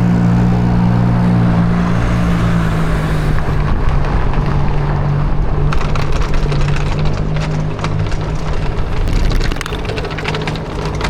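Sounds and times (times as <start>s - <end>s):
electric motor hum: 0.0s - 9.9s
rushing noise: 0.0s - 9.9s
sharp rattles: 0.0s - 11.0s.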